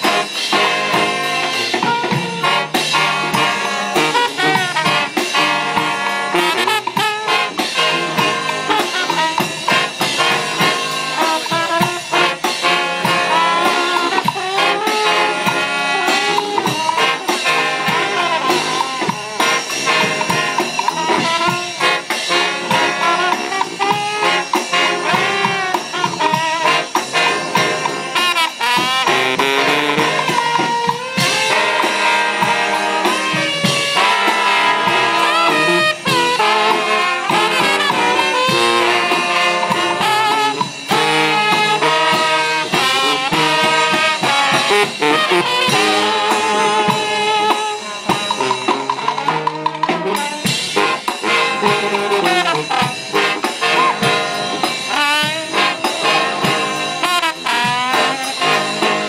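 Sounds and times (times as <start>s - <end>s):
brass band playing jazz: 0.0s - 59.0s.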